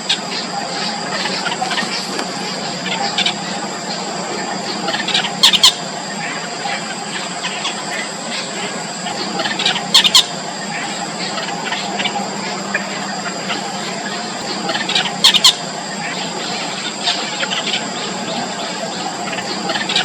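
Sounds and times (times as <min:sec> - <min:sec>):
nestlings squeaky chatter: 0:00.0 - 0:20.0.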